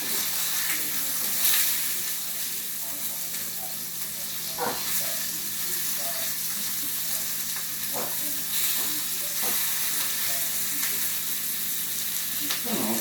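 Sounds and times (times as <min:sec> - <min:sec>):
fish sizzling in a frying pan: 0:00.0 - 0:13.0.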